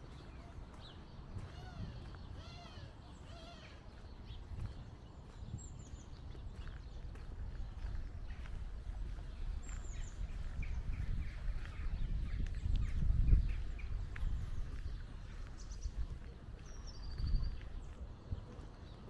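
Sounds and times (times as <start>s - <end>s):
footsteps on dirt path: 0.0s - 19.0s
small birds chirping: 0.0s - 19.0s.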